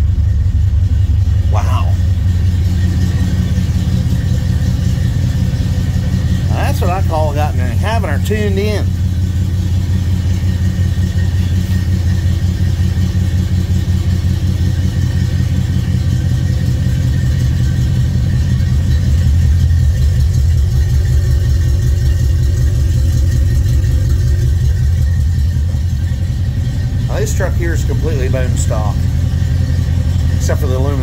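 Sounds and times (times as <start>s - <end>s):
pickup engine rumbling: 0.0s - 31.0s.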